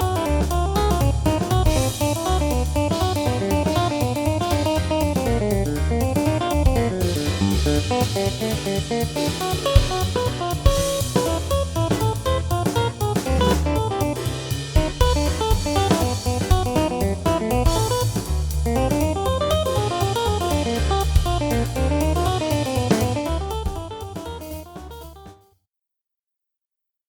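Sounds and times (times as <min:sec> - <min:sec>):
bass: 0:00.0 - 0:25.3
drum kit with cymbals: 0:00.0 - 0:25.4.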